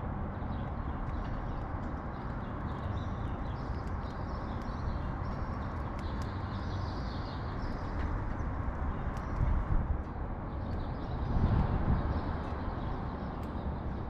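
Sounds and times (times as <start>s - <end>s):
low rumble of city traffic: 0.0s - 14.0s
sparrows chirping: 0.3s - 9.7s, 10.4s - 14.0s.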